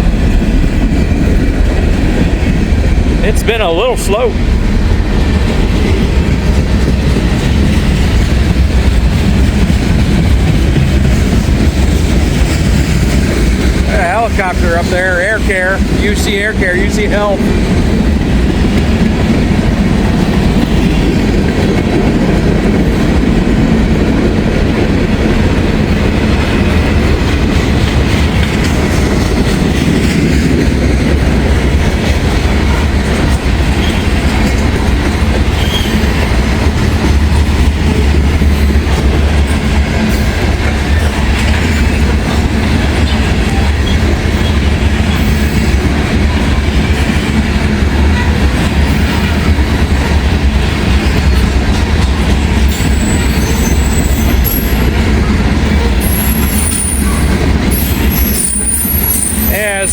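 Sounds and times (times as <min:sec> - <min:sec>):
freight train rumbling: 0:00.0 - 0:59.9
wheels clacking over rail joints: 0:03.8 - 0:59.9.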